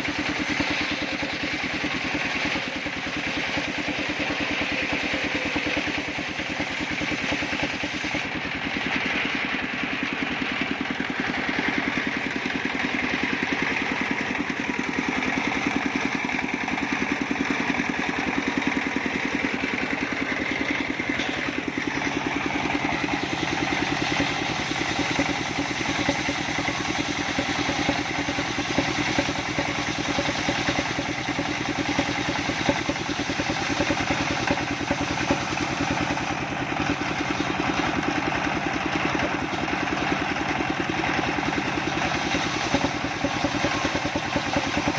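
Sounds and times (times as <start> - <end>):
sawmill saw engine running: 0.0 - 44.9.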